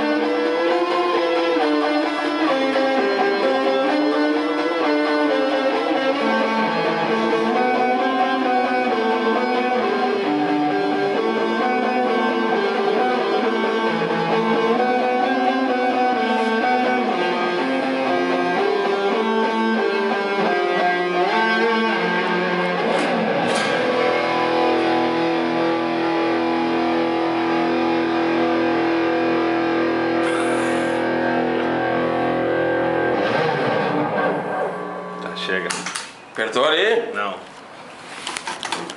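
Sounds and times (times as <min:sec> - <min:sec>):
rock music with electric guitars: 0:00.0 - 0:36.3.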